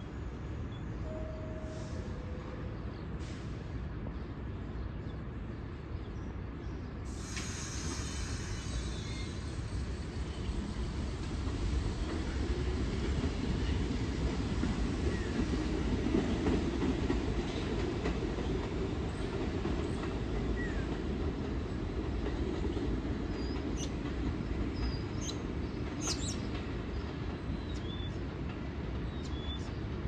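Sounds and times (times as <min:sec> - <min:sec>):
subway train wheels rumbling: 0:00.0 - 0:30.0.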